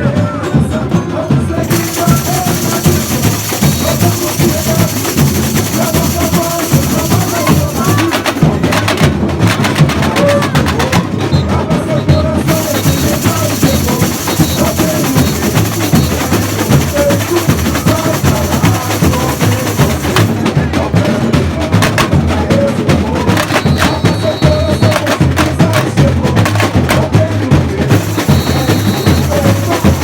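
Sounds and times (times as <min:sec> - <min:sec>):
deep bass drums: 0:01.6 - 0:11.2, 0:12.1 - 0:30.0
quick drum strokes: 0:01.6 - 0:30.0.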